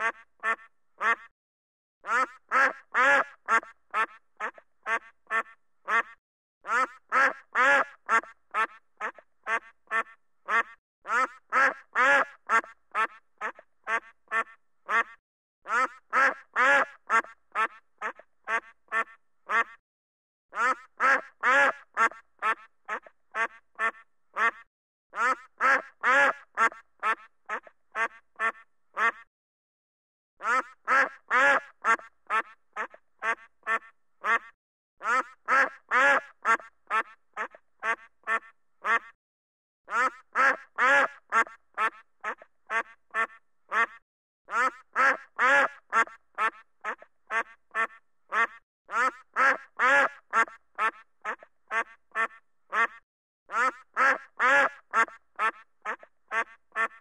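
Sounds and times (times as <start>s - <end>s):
duck quacking: 0.0s - 1.3s, 2.0s - 19.8s, 20.5s - 29.3s, 30.4s - 39.2s, 39.9s - 57.0s.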